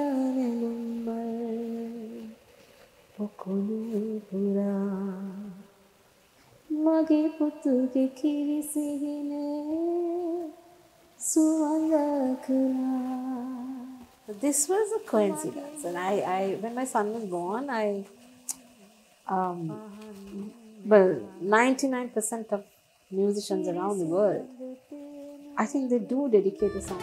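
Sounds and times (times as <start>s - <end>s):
woman singing unaccompanied: 0.0s - 2.4s, 3.2s - 5.7s, 6.7s - 27.0s.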